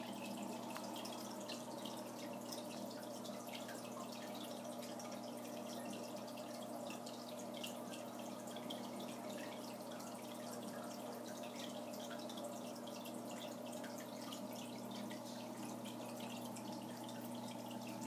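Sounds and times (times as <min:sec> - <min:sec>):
low steady hum: 0:00.0 - 0:18.0
water trickling into tank: 0:00.0 - 0:18.0.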